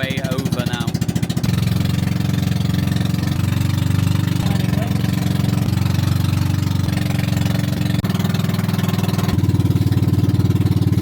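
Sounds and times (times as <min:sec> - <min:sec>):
boat engine pulsing: 0:00.0 - 0:11.0.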